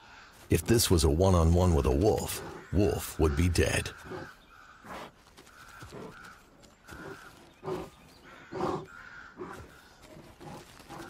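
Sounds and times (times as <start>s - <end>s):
ravens croaking and cawing: 0.0s - 11.0s.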